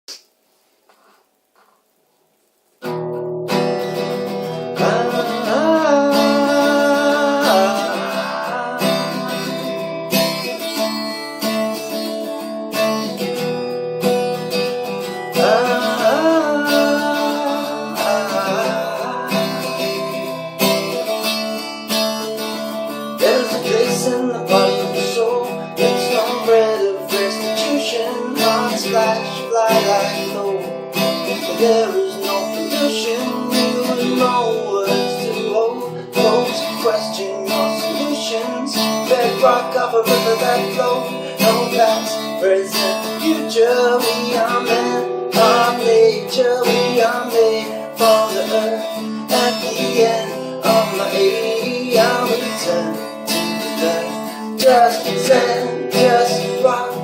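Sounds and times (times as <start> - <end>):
acoustic guitar playing: 2.4 - 57.0.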